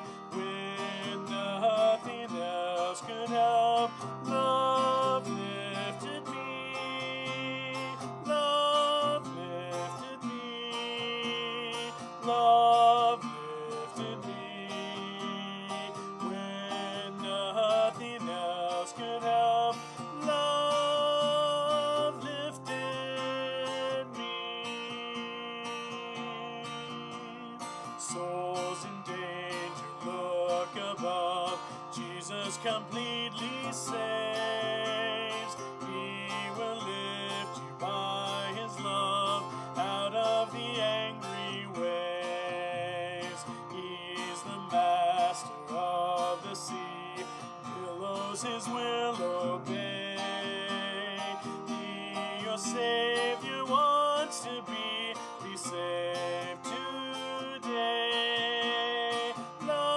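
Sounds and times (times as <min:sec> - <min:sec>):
acoustic guitar playing hymn tune: 0:00.0 - 0:59.9.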